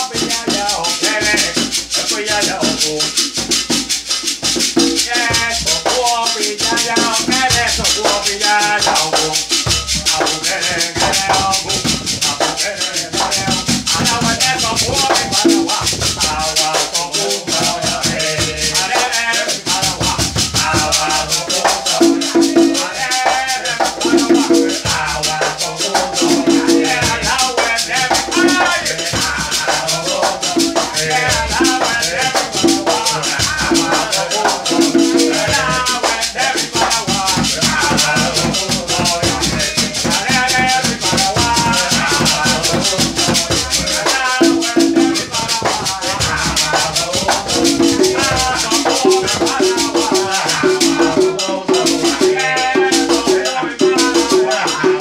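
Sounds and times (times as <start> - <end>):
beaded gourd shaker rattling: 0.0 - 55.0
conga drum: 0.0 - 55.0
voices singing: 0.0 - 55.0.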